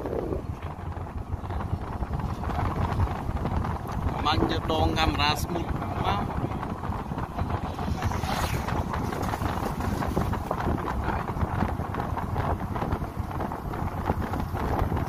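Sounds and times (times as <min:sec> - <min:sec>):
vehicle rumbling and rattling: 0:00.0 - 0:15.0
wind buffeting microphone: 0:00.0 - 0:15.0.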